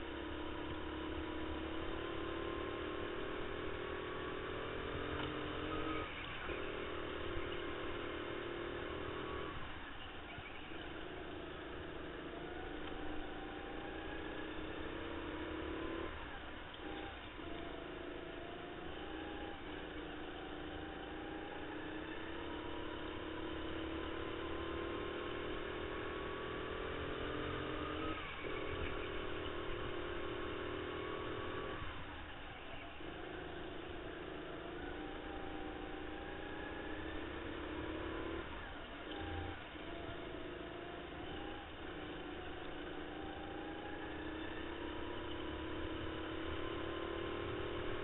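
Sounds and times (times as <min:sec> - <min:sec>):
go-kart motor revving: 0:00.0 - 0:48.0.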